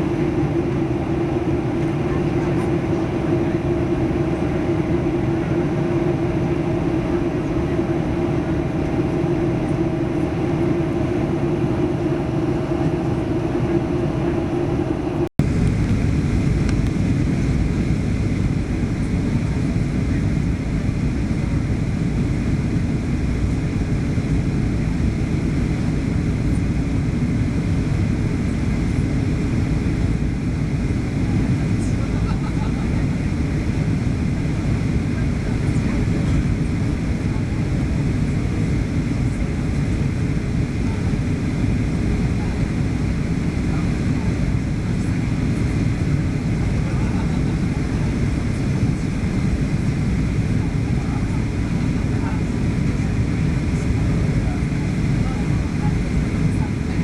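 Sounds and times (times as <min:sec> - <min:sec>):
airplane cabin engine rush: 0:00.0 - 0:57.0
steady hum tone: 0:00.0 - 0:57.0.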